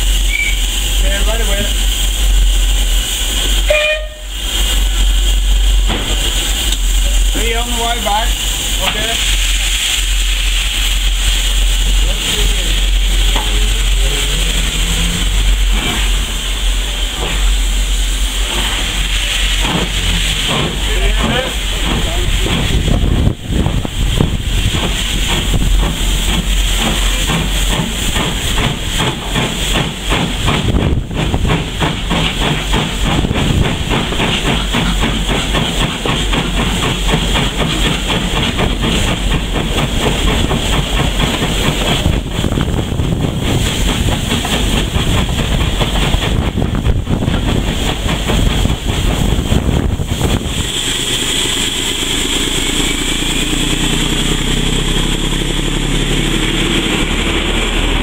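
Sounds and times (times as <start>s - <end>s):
steam locomotive hissing: 0.0s - 58.0s.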